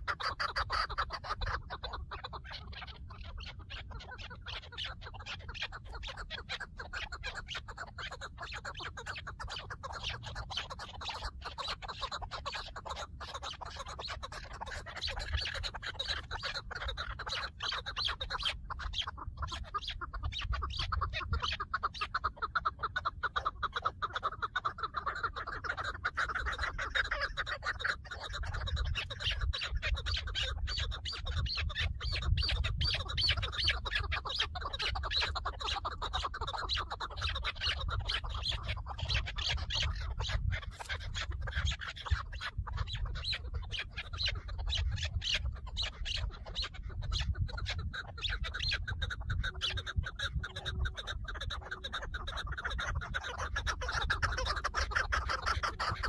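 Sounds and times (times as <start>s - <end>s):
partridge clucking call: 0.0s - 56.0s.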